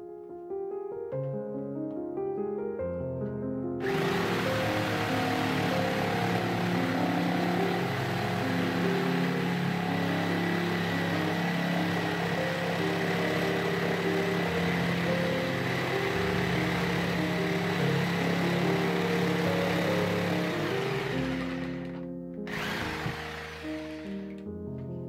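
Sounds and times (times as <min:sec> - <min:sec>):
background music: 0:00.0 - 0:25.0
jigsaw cutting chipboard: 0:03.8 - 0:24.5.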